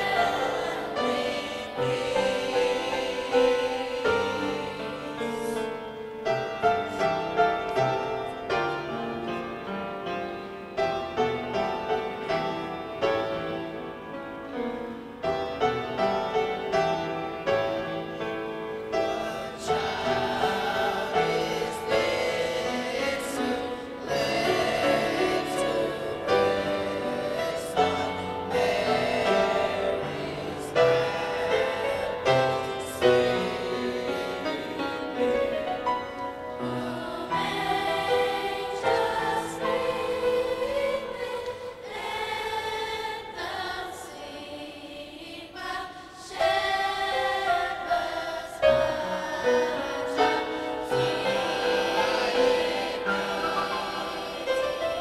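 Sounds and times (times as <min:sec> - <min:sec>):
youth choir singing in parts: 0:00.0 - 0:08.8, 0:15.8 - 0:55.0
upright piano accompaniment: 0:00.0 - 0:42.9, 0:46.4 - 0:55.0.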